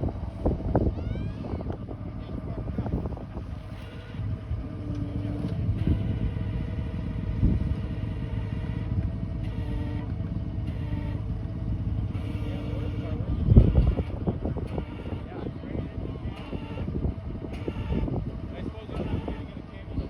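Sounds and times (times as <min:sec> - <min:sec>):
tow truck engine running: 0:00.0 - 0:20.0.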